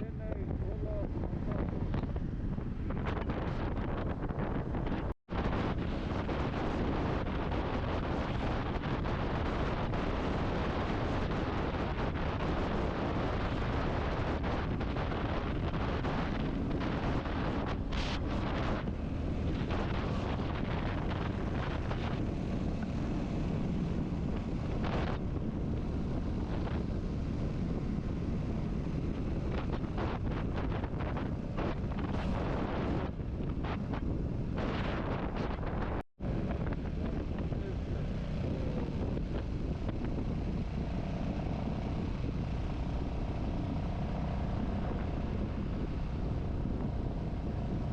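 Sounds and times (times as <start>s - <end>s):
motorcycle engine running: 0.0s - 47.9s
road noise: 0.0s - 47.9s
wind rushing over microphone: 0.0s - 47.9s.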